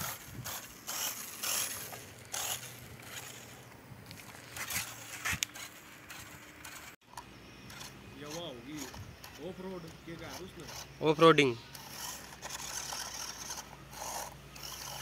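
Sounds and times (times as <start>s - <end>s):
toy car electric motors whirring: 0.0s - 15.0s.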